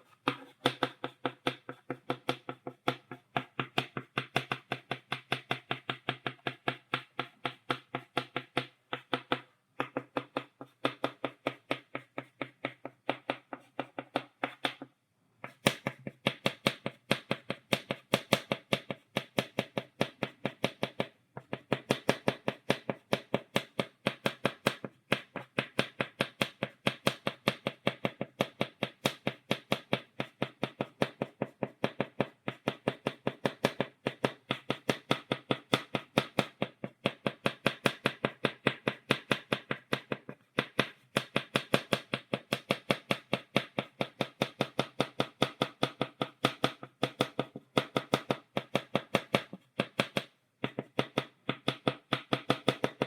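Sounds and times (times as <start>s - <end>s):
chalk tapping on blackboard: 0.0s - 53.0s.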